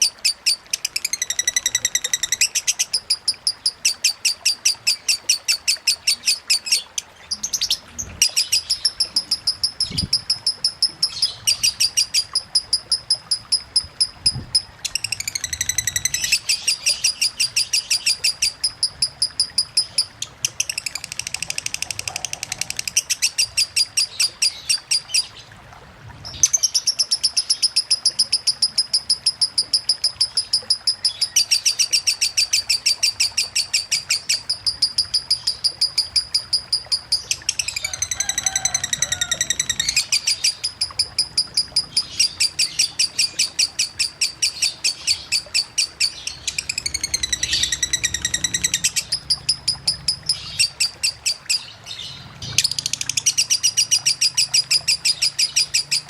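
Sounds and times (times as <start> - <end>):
lovebird high chattering song: 0.0 - 25.4, 26.3 - 56.0.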